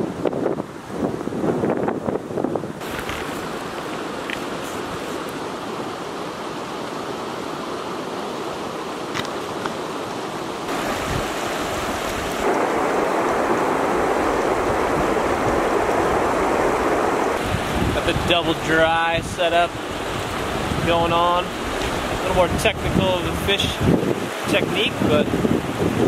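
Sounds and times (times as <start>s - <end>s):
river rushing over stones: 2.0s - 26.0s.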